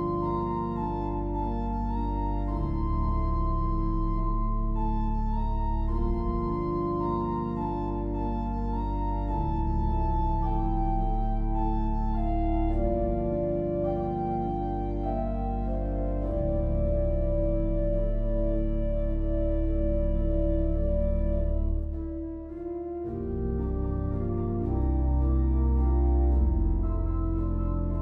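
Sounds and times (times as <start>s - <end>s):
organ playing sustained chords: 0.0s - 28.0s.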